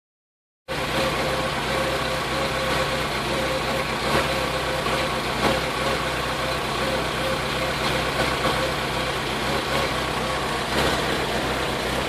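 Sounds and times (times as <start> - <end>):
car engine idling with misfire: 0.7 - 12.0.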